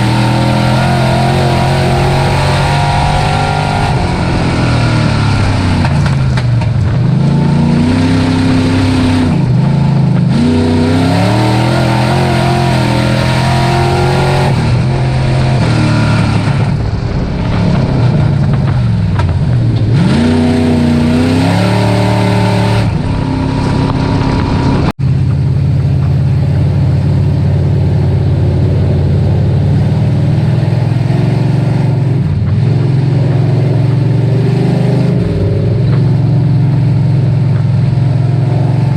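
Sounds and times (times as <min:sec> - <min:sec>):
race truck engine revving: 0:00.0 - 0:25.0, 0:26.4 - 0:38.9.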